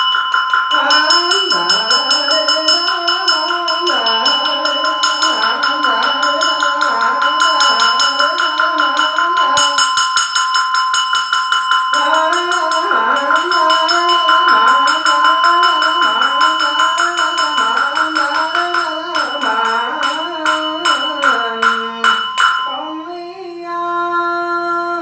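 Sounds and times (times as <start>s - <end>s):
rapid percussion strikes: 0.0s - 23.1s
steady ringing tone: 0.0s - 24.5s
monk chanting: 0.7s - 10.0s, 11.9s - 25.0s.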